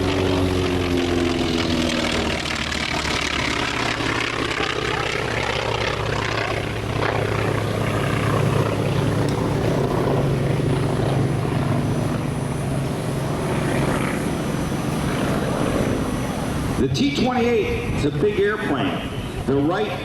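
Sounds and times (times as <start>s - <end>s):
airplane radial engine droning: 0.0s - 20.0s.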